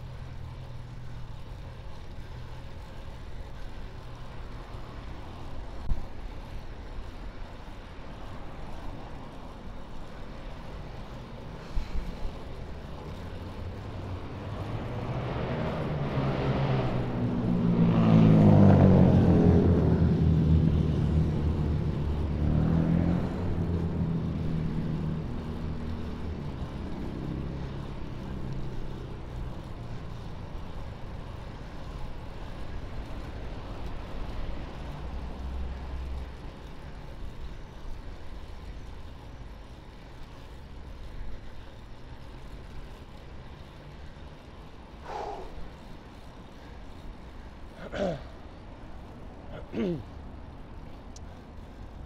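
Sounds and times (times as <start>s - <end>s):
city traffic background: 0.0s - 52.0s
vehicle engine hum: 0.0s - 52.0s.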